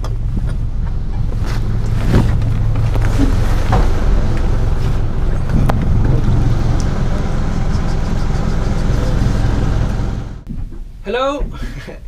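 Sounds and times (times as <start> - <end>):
boat engine humming: 0.0 - 10.5.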